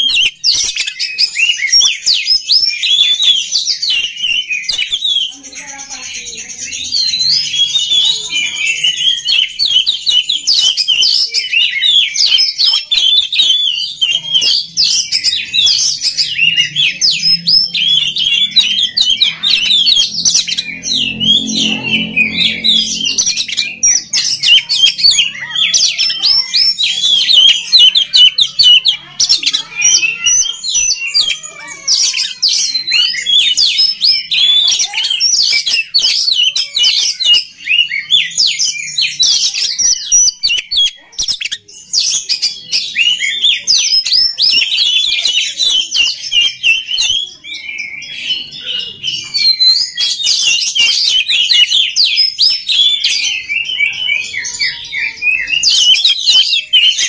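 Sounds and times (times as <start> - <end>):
bird singing chirps and whistles: 0.0 - 5.4, 6.5 - 57.0.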